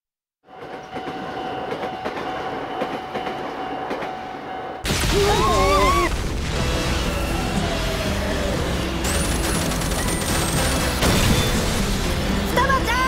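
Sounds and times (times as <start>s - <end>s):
train rumbling and wheels clattering: 0.4s - 4.9s, 6.3s - 13.0s.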